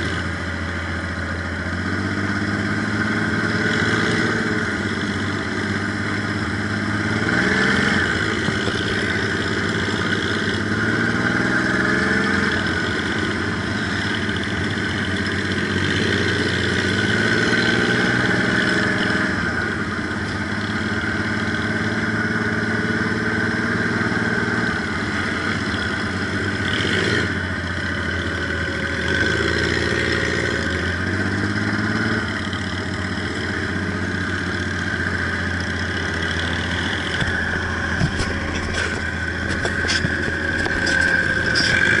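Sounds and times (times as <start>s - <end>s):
buggy engine running: 0.0s - 42.0s.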